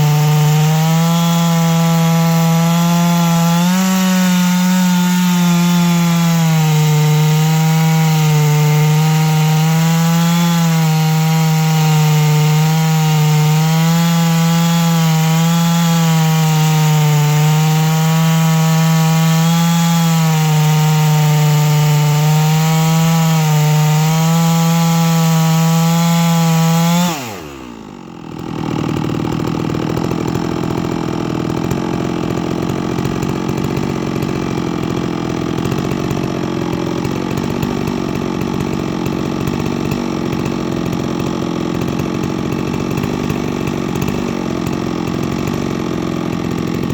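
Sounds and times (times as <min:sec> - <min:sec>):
chainsaw engine milling log: 0:00.0 - 0:46.9.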